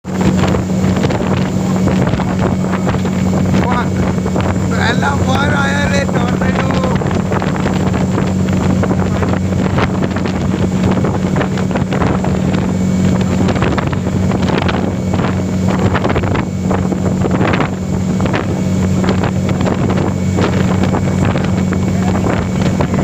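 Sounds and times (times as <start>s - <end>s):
steady low hum: 0.0s - 23.0s
wind buffeting microphone: 0.0s - 23.0s.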